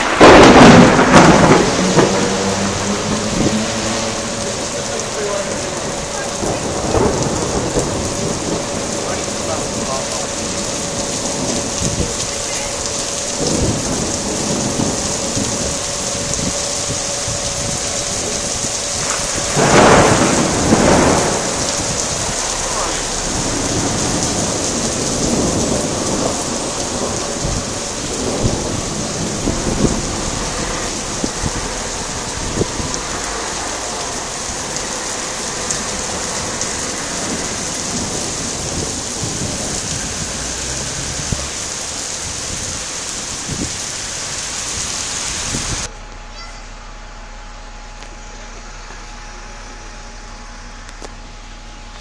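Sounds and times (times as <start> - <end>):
rolling thunder: 0.0 - 45.9
heavy rain pouring: 0.0 - 52.0.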